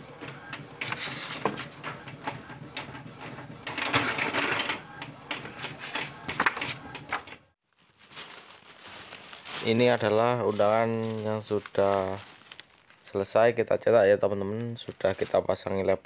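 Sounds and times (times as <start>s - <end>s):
paper sheets rustling: 0.2s - 13.4s, 14.7s - 15.8s.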